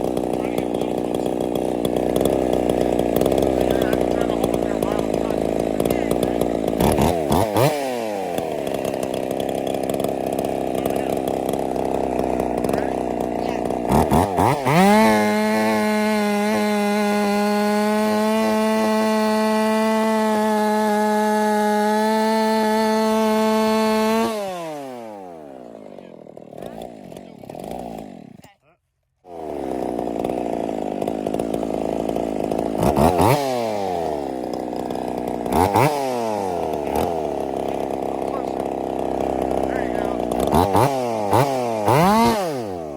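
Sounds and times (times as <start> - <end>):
chainsaw running at high revs: 0.0 - 42.9.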